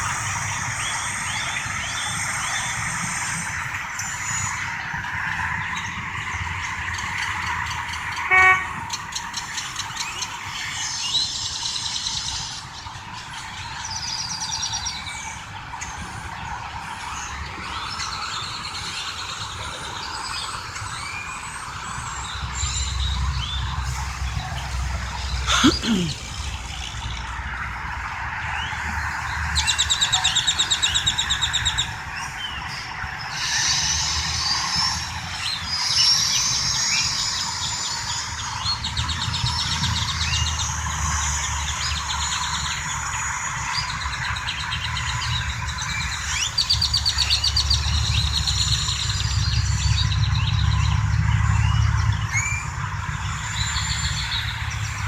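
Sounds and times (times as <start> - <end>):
birds chirping and whistling: 0.0 - 27.3, 28.5 - 55.0
highway traffic rumble: 0.0 - 55.0.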